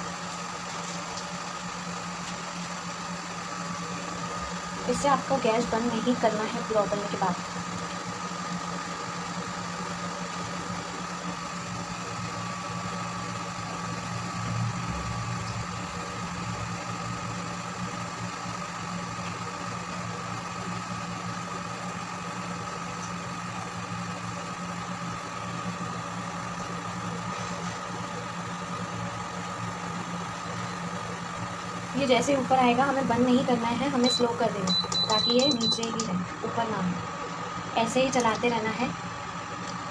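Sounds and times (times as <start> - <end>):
cooktop fan hum: 0.0 - 39.9.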